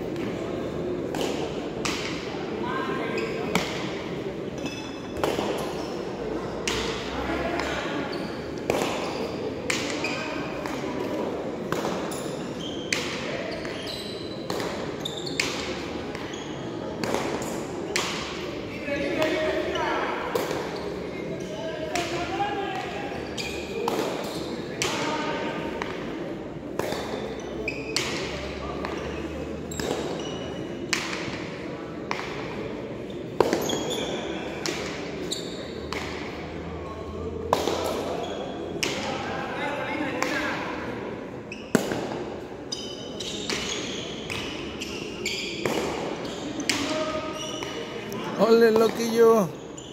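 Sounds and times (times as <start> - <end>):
low crowd murmur: 0.0 - 49.9.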